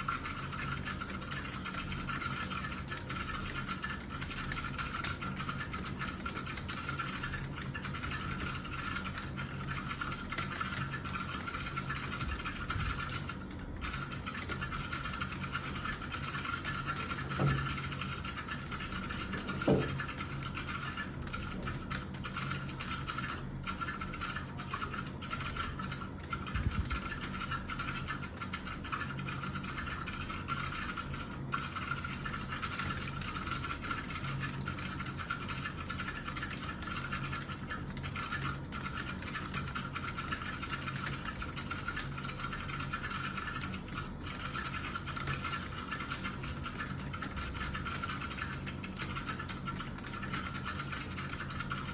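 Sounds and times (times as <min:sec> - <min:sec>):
keyboard typing: 0:00.0 - 0:51.9.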